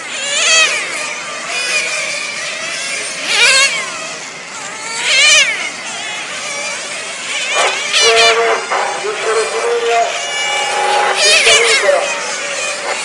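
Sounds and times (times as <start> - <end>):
remote control cars passing: 0.0 - 13.0.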